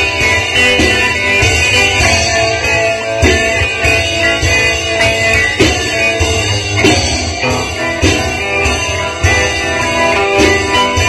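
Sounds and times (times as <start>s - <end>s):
drums keeping a steady beat: 0.0s - 11.0s
guitar: 0.0s - 11.0s.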